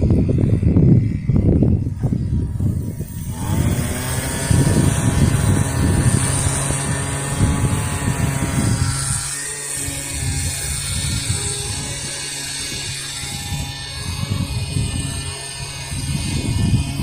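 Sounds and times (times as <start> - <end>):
low irregular rumbling: 0.0 - 17.0
pressure washer engine running: 1.8 - 17.0.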